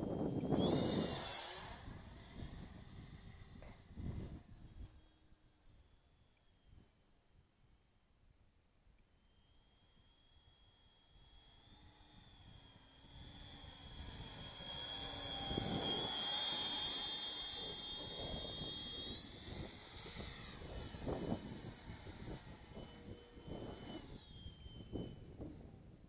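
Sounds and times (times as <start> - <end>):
model jet fan whining: 0.0 - 7.6, 8.8 - 26.0.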